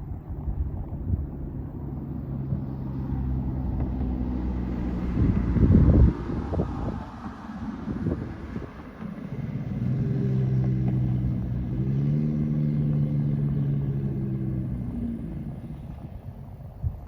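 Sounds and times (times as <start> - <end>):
car exhaust drone: 0.0 - 17.0.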